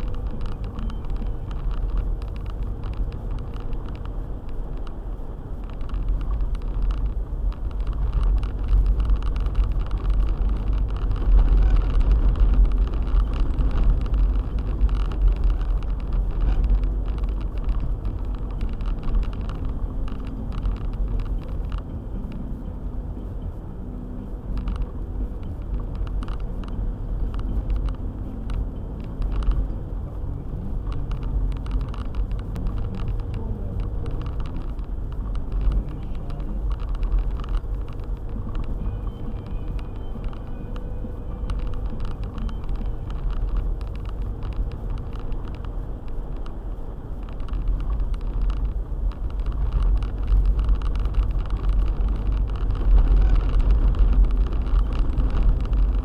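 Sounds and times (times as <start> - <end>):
small knocks and clicks: 0.0 - 5.0, 5.6 - 22.4, 24.2 - 46.6, 47.2 - 56.0
car engine and road rumble: 0.0 - 56.0.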